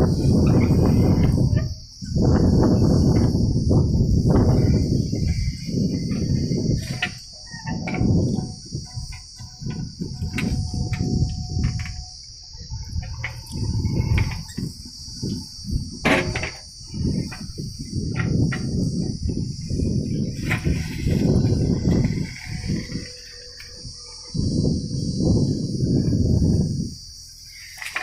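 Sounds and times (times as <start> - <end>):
backhoe diesel engine rumble: 0.0 - 28.0
high-pitched insect buzz: 0.0 - 28.0.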